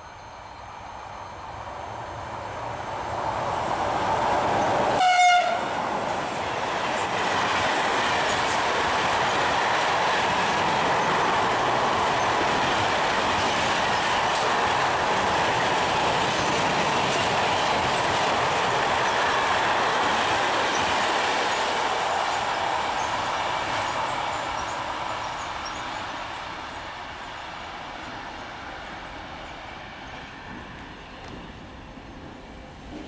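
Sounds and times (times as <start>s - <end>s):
freight train wheels on rails: 0.0s - 33.0s.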